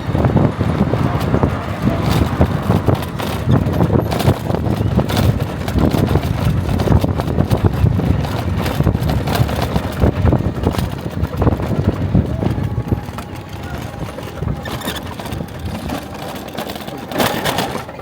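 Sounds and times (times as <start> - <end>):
car engine and road noise: 0.0 - 18.0
short knocks and rattles: 0.0 - 18.0.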